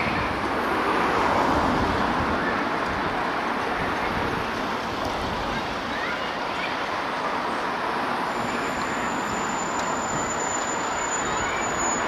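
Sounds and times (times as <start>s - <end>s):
city traffic rush: 0.0s - 12.0s.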